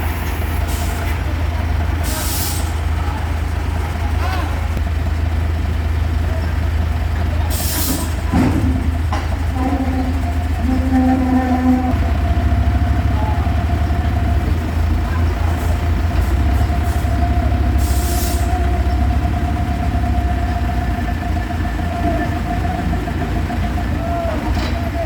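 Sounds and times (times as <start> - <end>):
road roller diesel engine: 0.0 - 25.0.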